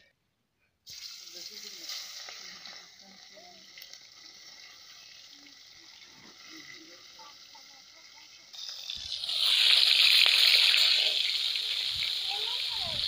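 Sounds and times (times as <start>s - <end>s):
fish sizzling in hot oil: 0.9s - 13.0s.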